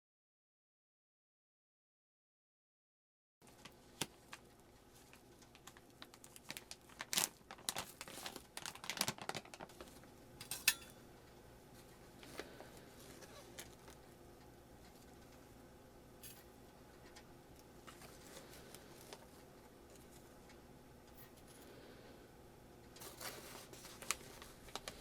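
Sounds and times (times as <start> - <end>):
faint steady hum: 3.4 - 25.0.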